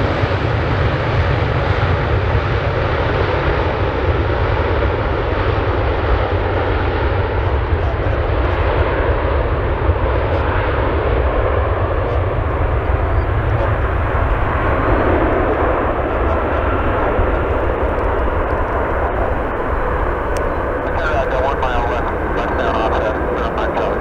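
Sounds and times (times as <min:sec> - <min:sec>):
jet engines at takeoff: 0:00.0 - 0:24.0.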